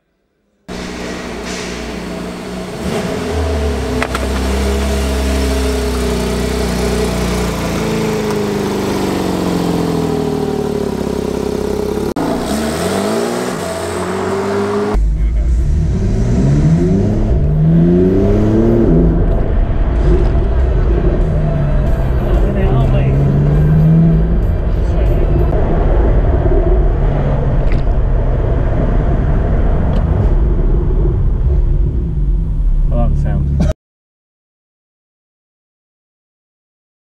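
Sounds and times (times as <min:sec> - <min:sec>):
car engine accelerating: 0:00.6 - 0:33.7.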